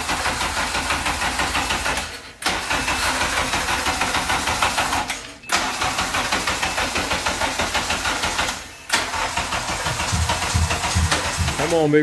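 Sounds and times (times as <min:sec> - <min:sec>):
engine cranking by starter: 0:00.0 - 0:11.9.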